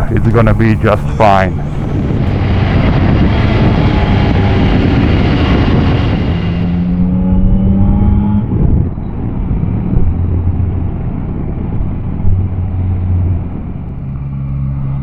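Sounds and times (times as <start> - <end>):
low steady engine note: 0.0 - 15.0
motorcycle engine accelerating: 0.0 - 15.0.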